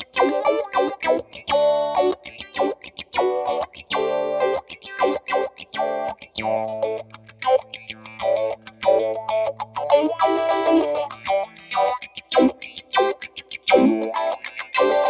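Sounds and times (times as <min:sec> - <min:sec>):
electric guitar with auto-wah: 0:00.0 - 0:15.0.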